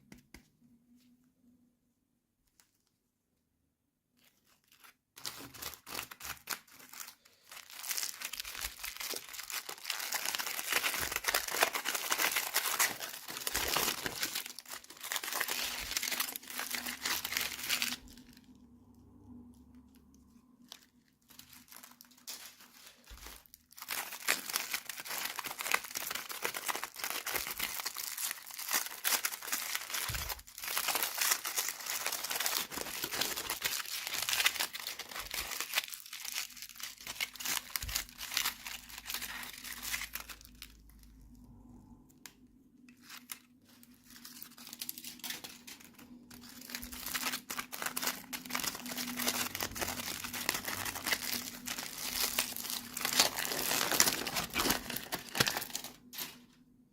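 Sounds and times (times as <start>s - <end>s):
toy packaging crinkling and tearing: 4.2s - 56.6s.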